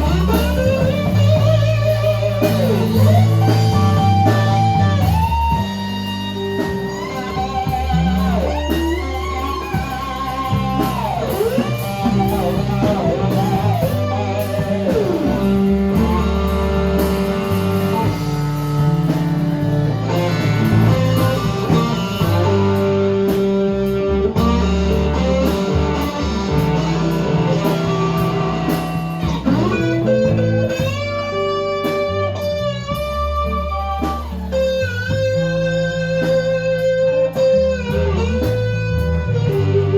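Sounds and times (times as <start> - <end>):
electric guitar lead with bent notes: 0.0 - 39.9
steady bass line: 0.0 - 39.9.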